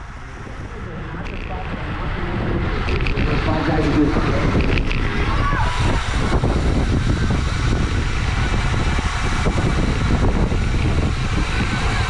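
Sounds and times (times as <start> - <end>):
road noise rumble: 0.0 - 12.0
wind rushing: 0.0 - 12.0.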